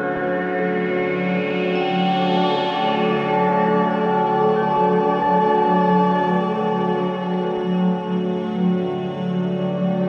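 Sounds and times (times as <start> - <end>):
ambient music with held tones: 0.0 - 10.0.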